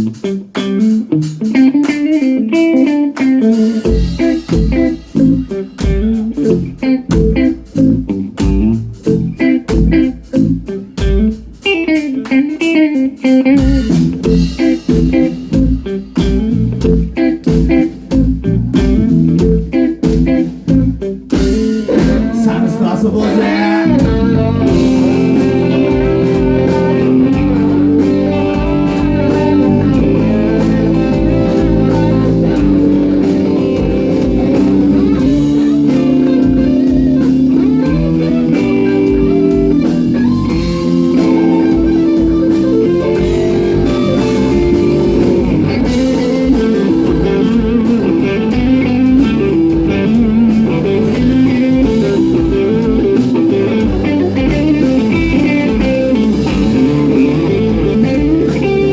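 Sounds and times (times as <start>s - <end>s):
band playing instrumental: 0.0s - 58.9s.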